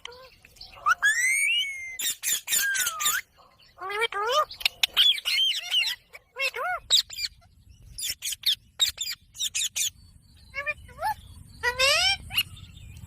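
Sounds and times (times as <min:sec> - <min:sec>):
parakeet calling: 0:00.0 - 0:12.8.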